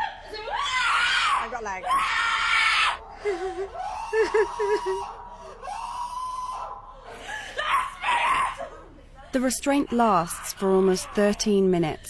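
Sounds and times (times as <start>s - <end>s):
woman screaming: 0.0s - 6.8s, 7.4s - 8.8s, 9.8s - 11.6s
woman wailing: 0.0s - 8.8s, 9.6s - 11.7s.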